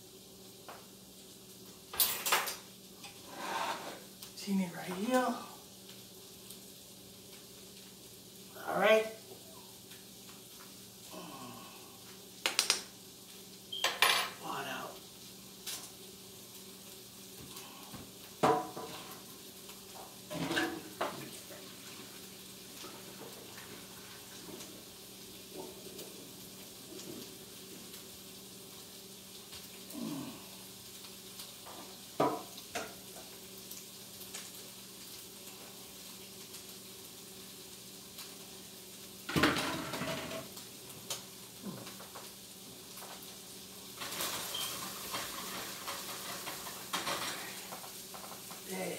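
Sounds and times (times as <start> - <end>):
faint steady hum: 0.0 - 45.3.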